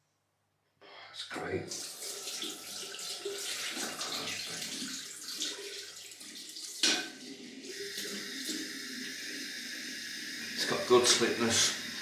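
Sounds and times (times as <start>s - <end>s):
tap water running into sink: 1.7s - 12.0s.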